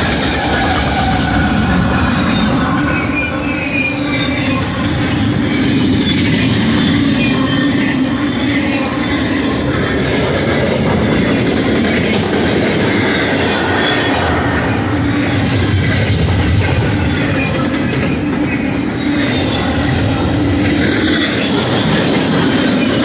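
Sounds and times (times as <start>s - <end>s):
freight train wheels rumbling on rails: 0.0s - 23.0s.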